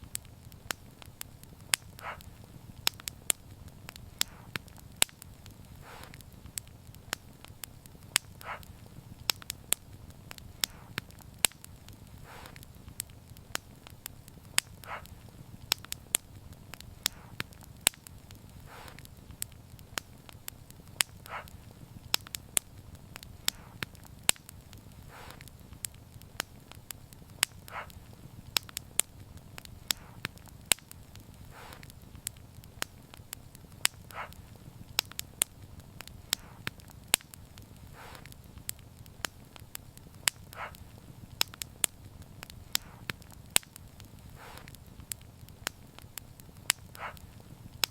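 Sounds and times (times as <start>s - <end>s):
low flame rumble: 0.0s - 47.9s
wood fire crackling and popping: 0.0s - 47.9s.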